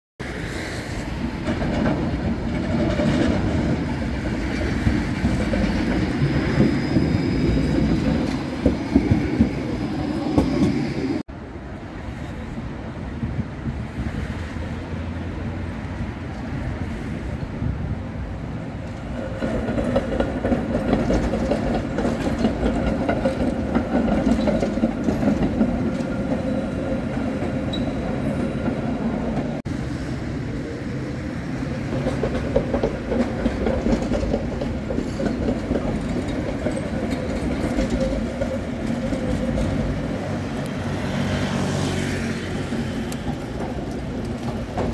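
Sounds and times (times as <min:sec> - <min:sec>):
tram wheels rumbling on rails: 0:00.2 - 0:44.9.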